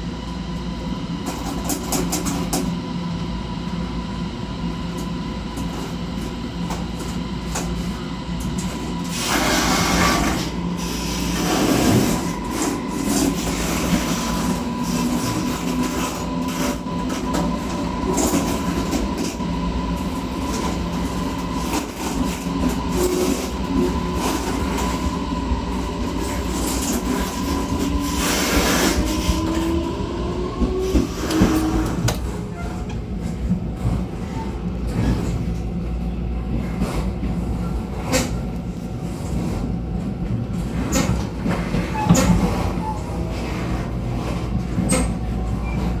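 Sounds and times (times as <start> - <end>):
train running rumble: 0.0 - 46.0.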